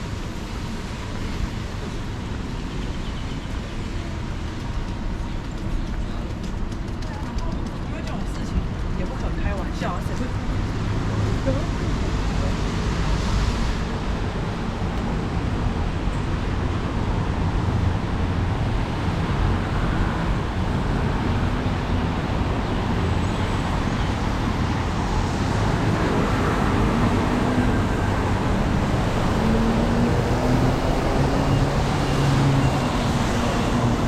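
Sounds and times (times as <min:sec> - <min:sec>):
city traffic rumble: 0:00.0 - 0:34.0
passing engine hum: 0:00.0 - 0:34.0.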